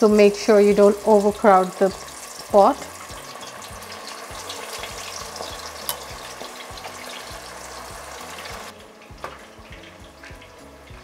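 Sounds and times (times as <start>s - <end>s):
oil sizzling while deep frying: 0.0s - 11.0s.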